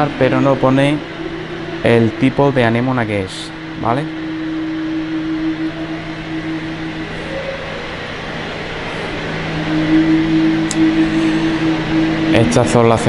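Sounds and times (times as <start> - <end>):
higher humming tone: 0.0 - 13.0
steady mechanical hum: 0.0 - 13.0.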